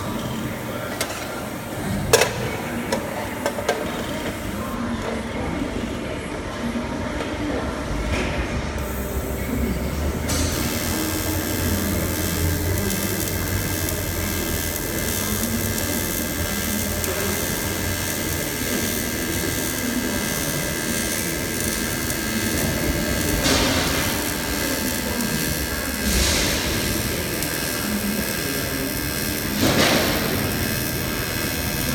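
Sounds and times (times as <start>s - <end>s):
welding arc buzzing: 0.0s - 4.8s, 8.8s - 31.9s.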